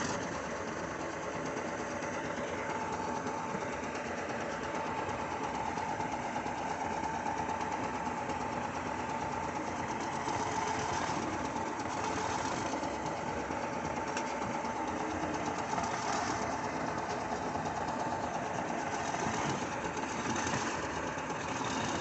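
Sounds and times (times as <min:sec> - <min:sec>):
diesel engine running: 0:00.0 - 0:22.0
steady whine: 0:00.0 - 0:22.0.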